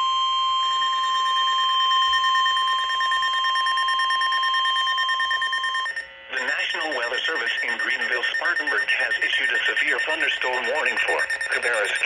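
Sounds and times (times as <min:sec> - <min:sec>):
steady high alarm tone: 0:00.0 - 0:12.0
rapid high-pitched beeping: 0:01.2 - 0:12.0.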